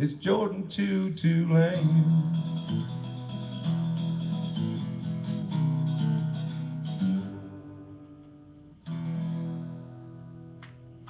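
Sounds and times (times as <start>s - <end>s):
guitar chords: 0.0s - 11.0s.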